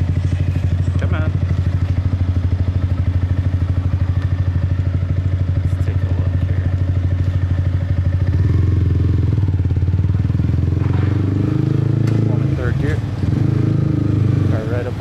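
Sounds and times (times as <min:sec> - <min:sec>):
motorbike engine rumbling: 0:00.0 - 0:15.0.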